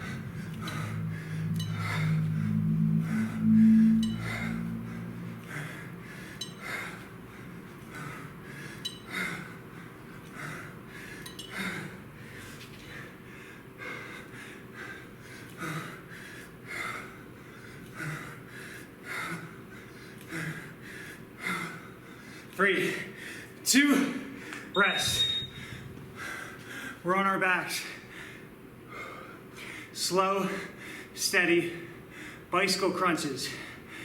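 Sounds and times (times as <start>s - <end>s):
man breathing hard: 0.0s - 23.6s, 25.5s - 27.0s, 27.8s - 31.2s, 31.8s - 32.5s, 33.4s - 34.0s.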